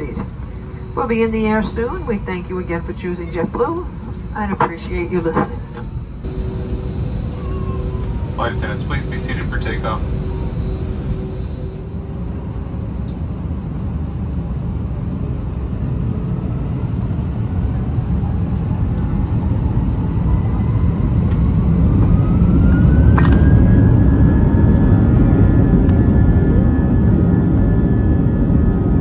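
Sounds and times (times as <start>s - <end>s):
deep engine rumble: 0.0s - 29.0s
jet engine whine rising: 0.0s - 29.0s.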